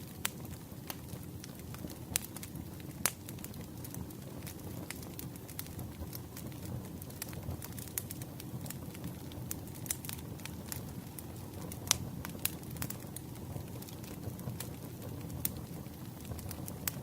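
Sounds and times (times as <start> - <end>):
campfire pops and snaps: 0.0 - 17.0
low rumble of flames: 0.0 - 17.0.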